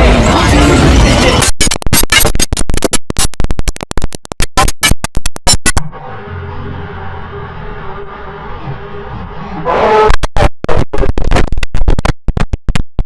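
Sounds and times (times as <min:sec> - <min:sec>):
stuttering glitched computer sound: 0:00.0 - 0:13.0.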